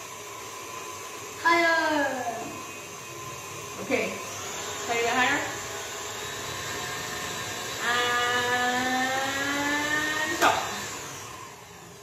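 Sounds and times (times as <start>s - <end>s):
stand mixer motor whining: 0.0s - 12.0s.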